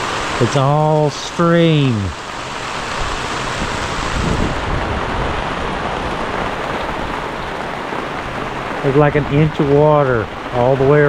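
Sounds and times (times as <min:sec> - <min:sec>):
heavy rain on a tent: 0:00.0 - 0:11.0.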